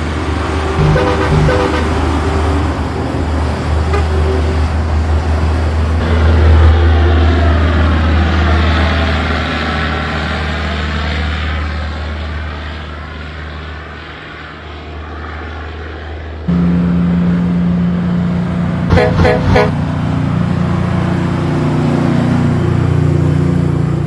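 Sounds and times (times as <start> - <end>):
heavy truck engine passing: 0.0 - 24.0
engine humming: 0.7 - 12.8, 16.5 - 24.0.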